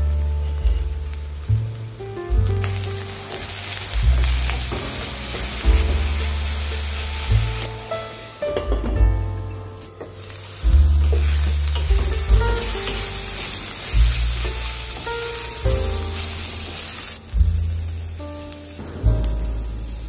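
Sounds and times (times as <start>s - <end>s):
background music with bass line: 0.0s - 20.0s
greens sizzling in a pan: 0.0s - 20.0s.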